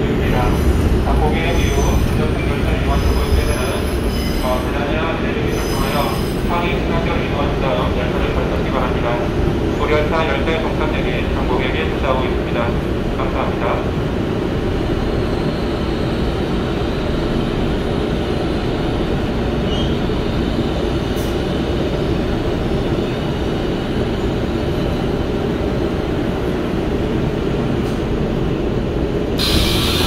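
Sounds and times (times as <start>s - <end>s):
subway train wheels rumbling: 0.0s - 30.0s.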